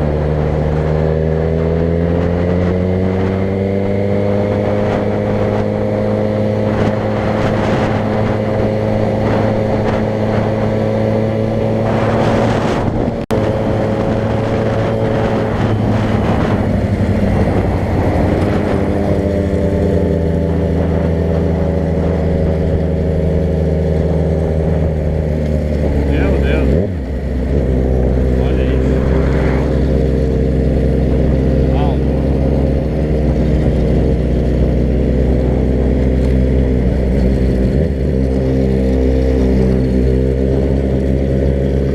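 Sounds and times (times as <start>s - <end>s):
car engine running: 0.0s - 41.9s
road and tyre noise: 0.0s - 41.9s.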